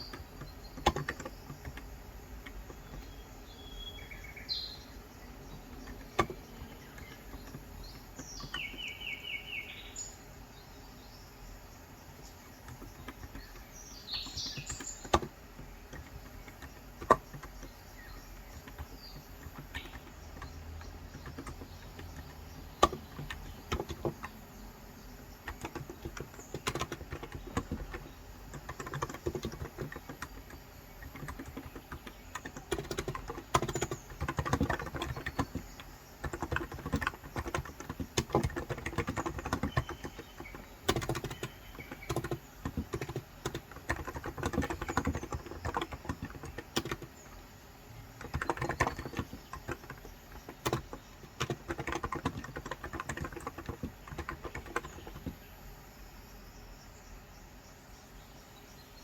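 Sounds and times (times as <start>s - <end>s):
typing on a keyboard: 0.0s - 9.3s, 12.4s - 55.6s
bird chirping: 0.0s - 59.0s.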